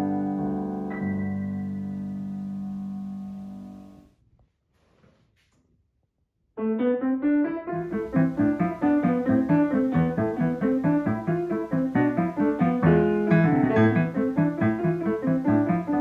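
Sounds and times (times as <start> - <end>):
piano playing: 0.0 - 4.0, 6.6 - 16.0.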